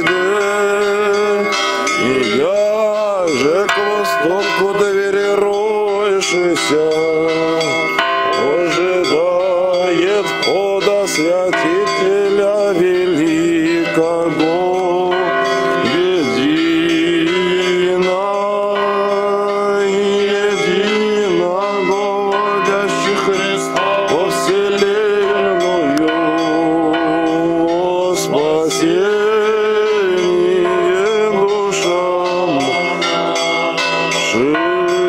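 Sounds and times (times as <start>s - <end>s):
church bells ringing: 0.0s - 35.0s
men chanting: 0.0s - 35.0s.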